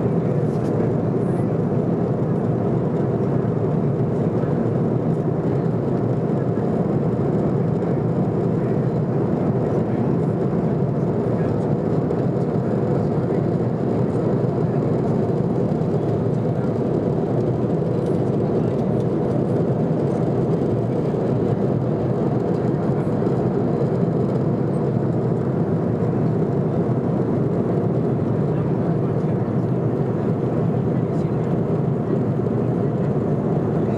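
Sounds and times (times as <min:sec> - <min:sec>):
airliner cabin engine drone: 0:00.0 - 0:33.9.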